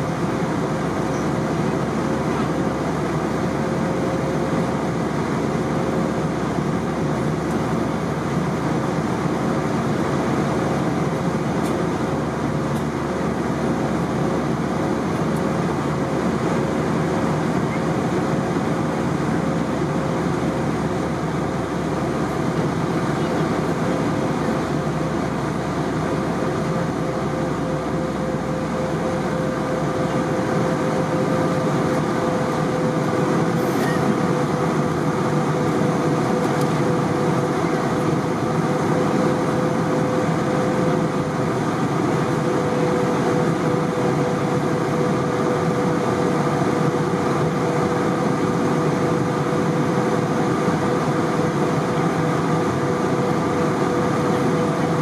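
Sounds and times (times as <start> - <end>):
airplane cabin engine and airflow noise: 0.0 - 55.0
constant humming tone: 0.0 - 55.0.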